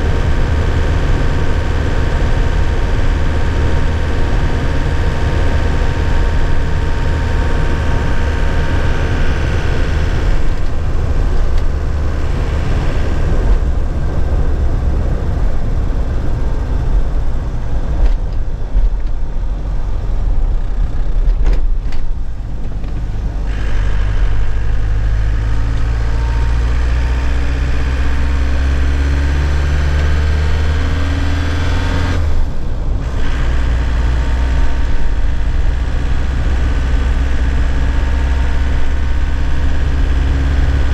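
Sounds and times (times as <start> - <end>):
truck engine droning: 0.0 - 40.9.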